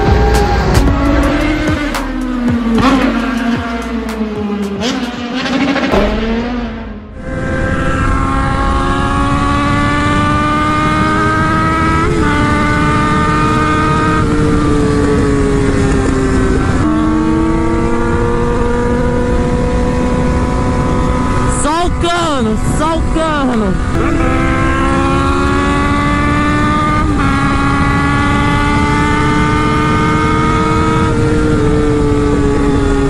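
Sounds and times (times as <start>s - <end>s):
motorcycle engine at highway speed: 0.0s - 33.0s
motorcycle engine revving: 0.0s - 33.0s.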